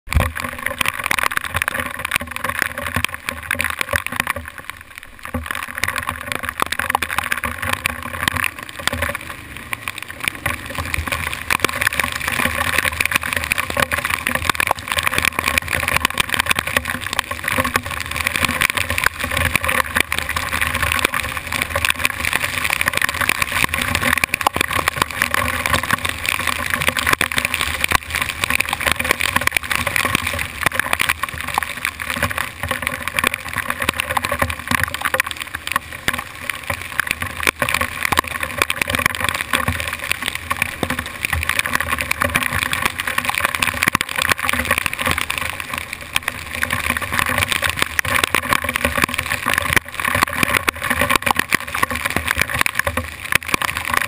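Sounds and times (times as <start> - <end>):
hail pattering on camera: 0.1 - 54.0.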